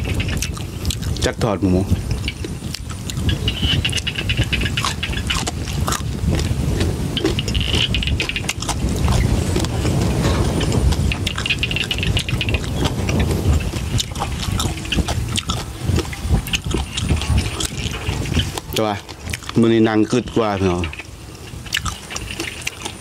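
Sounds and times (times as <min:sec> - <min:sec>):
crunchy chewing: 0:00.0 - 0:23.0
wind rumble on microphone: 0:00.0 - 0:23.0.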